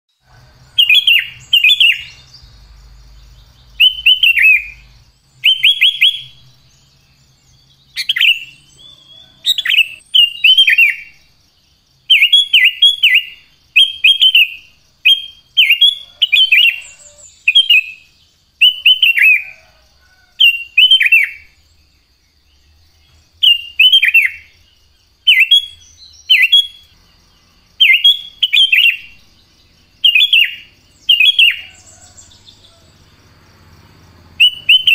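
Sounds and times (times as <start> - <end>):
bird singing: 0.1 - 34.9.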